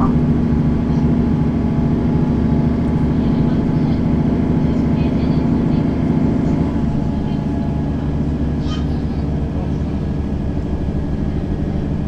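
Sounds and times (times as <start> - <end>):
bus engine and drivetrain hum: 0.0 - 12.0.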